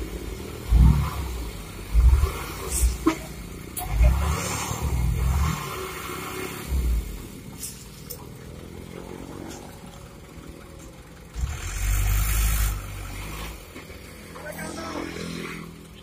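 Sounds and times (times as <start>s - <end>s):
dump truck diesel engines running: 0.0s - 16.0s.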